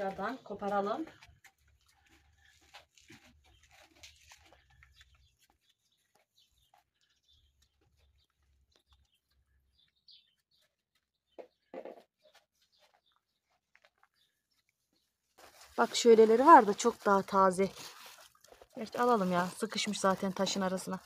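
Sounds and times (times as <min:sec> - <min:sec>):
lettuce leaves rustling and snapping: 0:00.7 - 0:09.4, 0:12.4 - 0:21.0.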